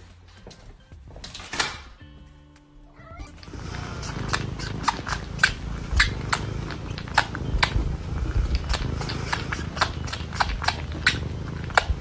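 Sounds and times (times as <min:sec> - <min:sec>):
steady low rumble: 0:02.0 - 0:12.0.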